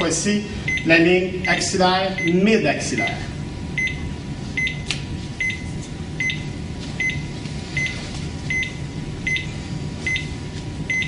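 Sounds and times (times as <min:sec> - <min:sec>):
cardiac monitor beeping: 0:00.0 - 0:11.0
steady low hum: 0:00.0 - 0:11.0.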